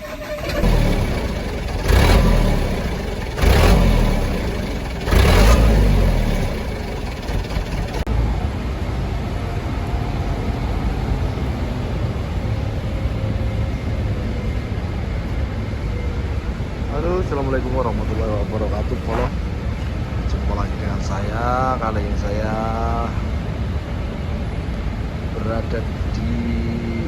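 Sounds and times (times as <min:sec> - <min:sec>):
diesel truck engine revving: 0:00.0 - 0:23.3.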